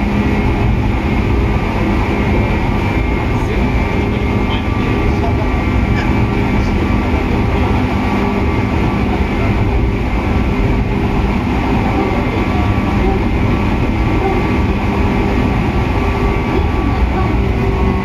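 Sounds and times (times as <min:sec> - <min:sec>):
train motors whining: 0:00.0 - 0:18.0
train wheels rumbling on rails: 0:00.0 - 0:18.0.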